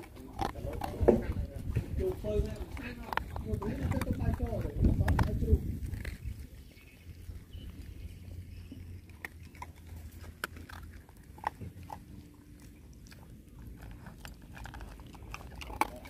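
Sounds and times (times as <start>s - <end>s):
puppy crunching dry kibble: 0.0s - 16.0s.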